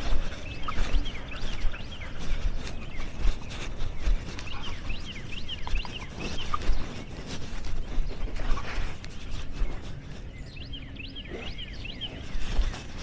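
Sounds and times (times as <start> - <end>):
rustling: 0.0 - 10.6, 11.3 - 13.0
birds chirping: 0.0 - 13.0.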